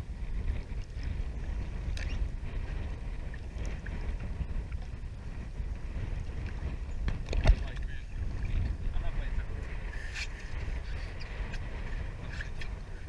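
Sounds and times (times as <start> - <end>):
water moving around boat: 0.0 - 13.0
wind rumbling on microphone: 0.0 - 13.0.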